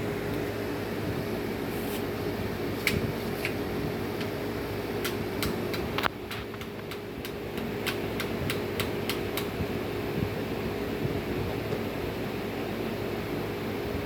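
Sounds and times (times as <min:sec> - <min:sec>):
mechanical fan hum: 0:00.0 - 0:14.0.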